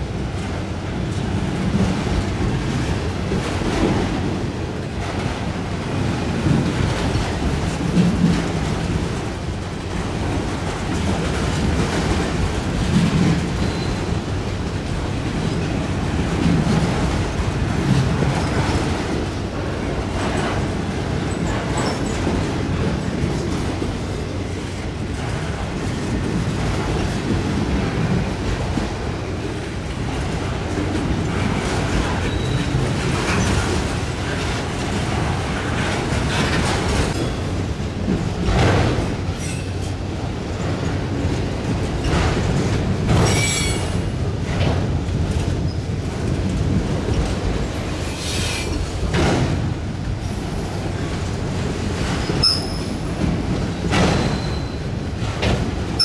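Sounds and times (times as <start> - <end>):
train wheels rumbling on rail: 0.0 - 56.0
wheels clacking over rail joints: 0.0 - 56.0.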